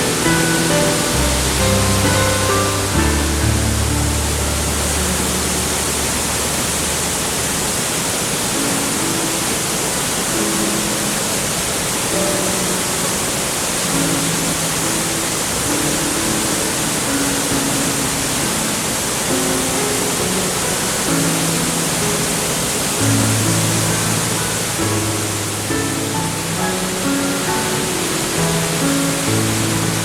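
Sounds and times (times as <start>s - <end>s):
soft background music: 0.0s - 30.0s
waterfall rushing: 0.0s - 30.0s.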